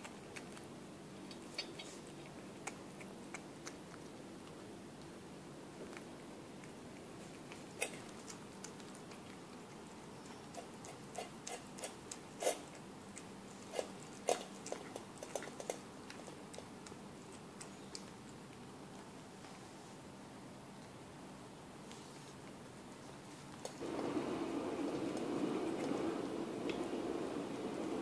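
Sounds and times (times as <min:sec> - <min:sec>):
cat chewing and licking food: 0:00.0 - 0:28.0.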